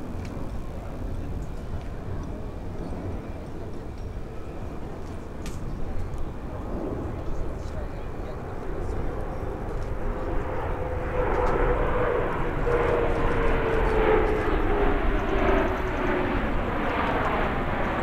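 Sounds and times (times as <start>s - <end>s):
jets roaring overhead: 0.0s - 18.0s.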